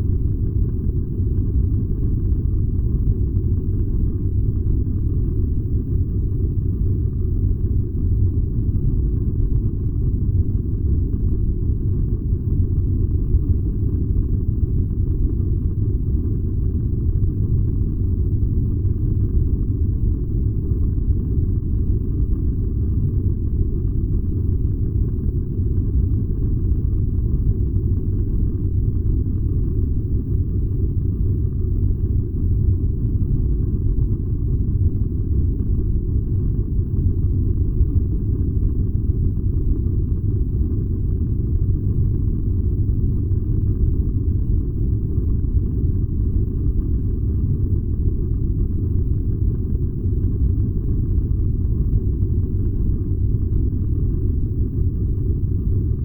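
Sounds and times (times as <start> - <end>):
furnace low rumble: 0.0 - 56.0.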